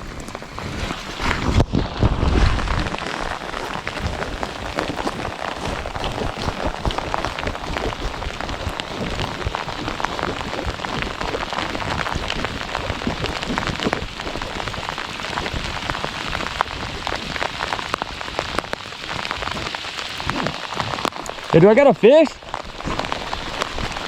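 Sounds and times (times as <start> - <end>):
raindrop taps close by: 0.0 - 24.0
steady rain falling: 0.0 - 24.0.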